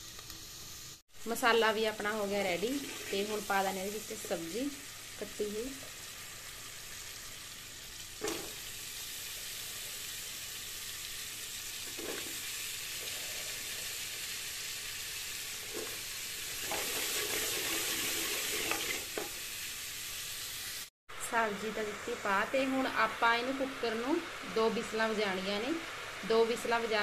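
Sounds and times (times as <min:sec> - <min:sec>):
masala sizzling in pot: 0:00.0 - 0:27.0.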